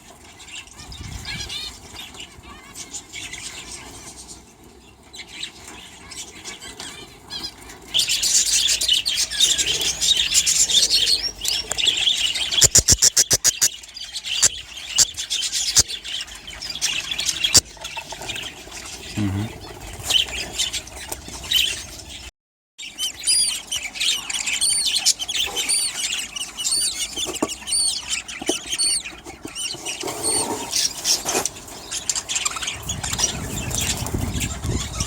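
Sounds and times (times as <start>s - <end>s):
budgerigars chattering and chirping: 0.0s - 35.0s.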